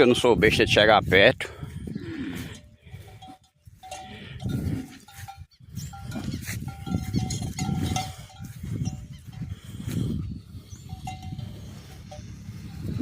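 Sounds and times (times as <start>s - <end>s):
cattle bellowing: 1.6s - 13.0s.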